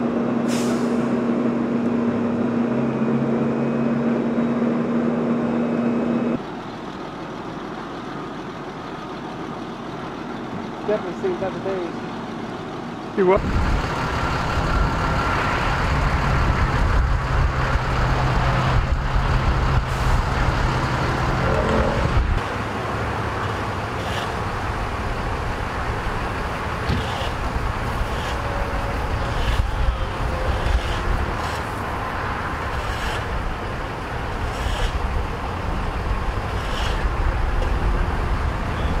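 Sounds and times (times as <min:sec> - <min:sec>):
engine drone: 0:00.0 - 0:39.0
highway traffic rumble: 0:00.0 - 0:39.0.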